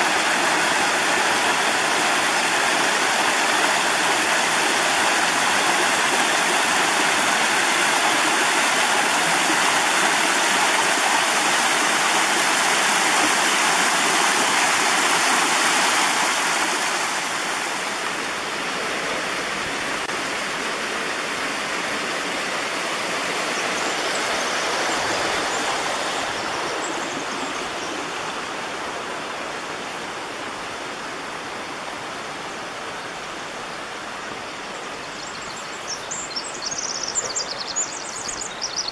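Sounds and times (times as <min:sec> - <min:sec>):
creek water rushing over rocks: 0:00.0 - 0:38.9.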